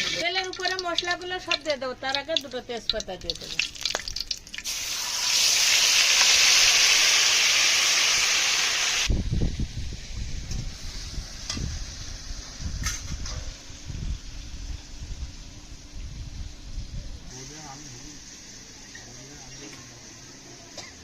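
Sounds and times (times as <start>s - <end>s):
spices sizzling in hot oil: 0.0s - 9.1s, 10.4s - 21.0s.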